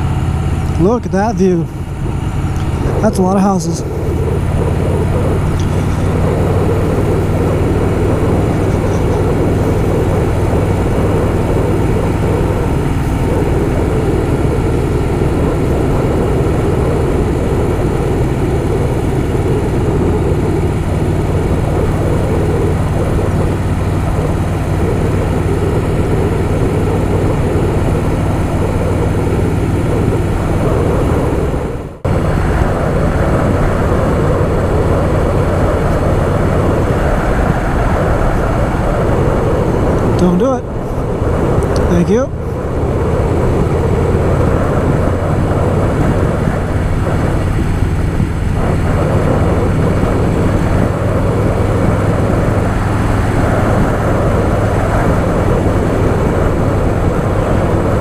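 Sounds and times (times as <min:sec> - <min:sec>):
motorcycle engine cruising: 0:00.0 - 0:58.0
wind noise on microphone: 0:00.0 - 0:58.0.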